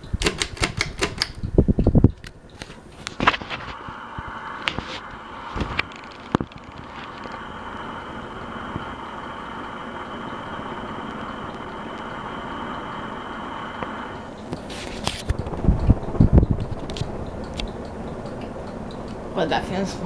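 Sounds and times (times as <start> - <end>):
ceiling fan air rush: 0.0 - 20.0
faint fan whine: 0.0 - 20.0.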